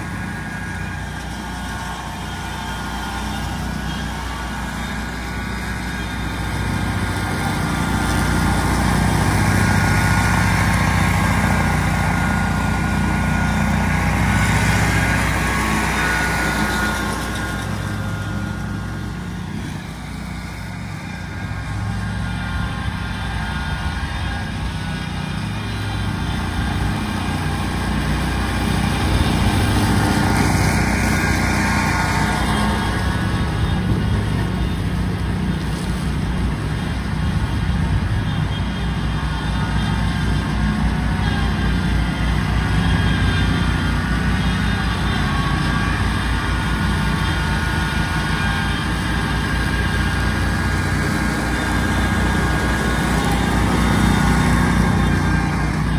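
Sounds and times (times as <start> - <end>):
mower engine drone with whine: 0.0 - 55.9.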